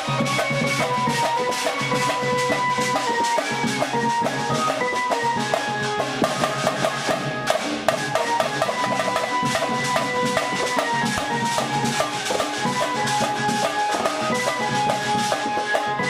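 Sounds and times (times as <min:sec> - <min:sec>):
fast drum rhythm: 0:00.0 - 0:16.0
melody in long held notes: 0:00.0 - 0:16.0.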